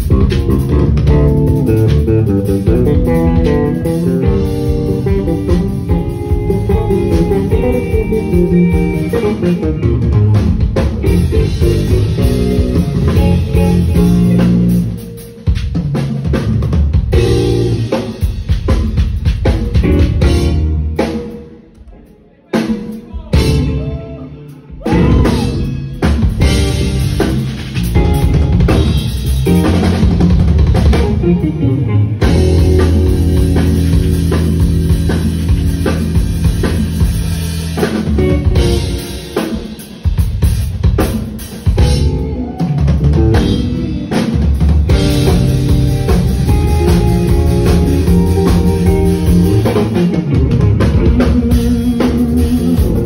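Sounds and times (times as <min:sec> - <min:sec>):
jazz fusion band playing: 0:00.0 - 0:21.8, 0:22.5 - 0:53.0
drum kit: 0:00.0 - 0:53.0.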